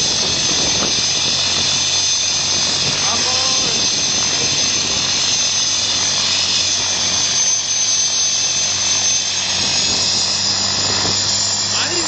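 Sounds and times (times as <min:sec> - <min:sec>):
helicopter turbine whine: 0:00.0 - 0:12.0.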